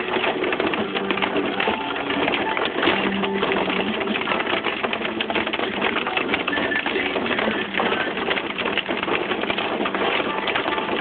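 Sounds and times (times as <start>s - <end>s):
hail pelting a car: 0.0s - 11.0s.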